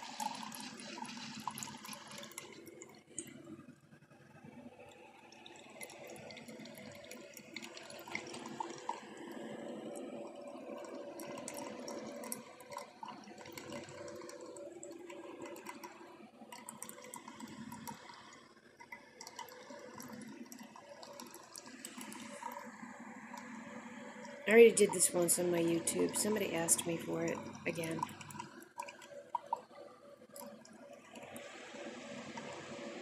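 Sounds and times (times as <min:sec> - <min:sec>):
water gurgling into mug: 0:00.0 - 0:03.5, 0:05.2 - 0:33.0.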